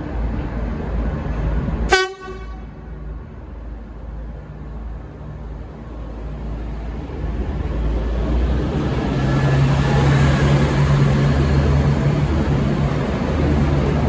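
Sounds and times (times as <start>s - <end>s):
diesel train engines pulling away: 0.0s - 14.0s.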